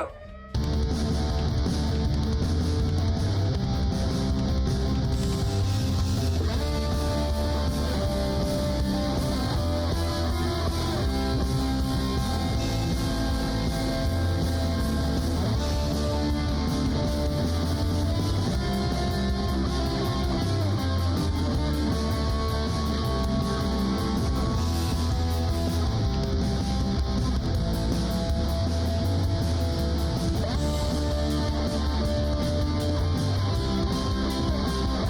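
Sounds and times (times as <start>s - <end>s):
rock music with guitar: 0.0s - 35.0s
strong bass: 0.0s - 35.0s.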